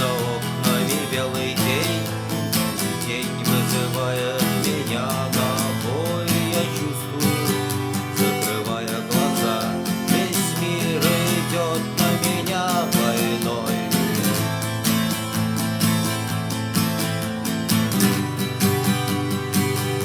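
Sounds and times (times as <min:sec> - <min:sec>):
acoustic guitar strummed: 0:00.0 - 0:20.0.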